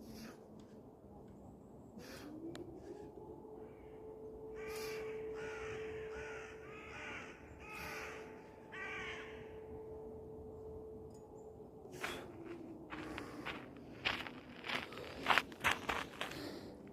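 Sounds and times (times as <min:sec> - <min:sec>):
air-raid siren: 0:00.6 - 0:16.8.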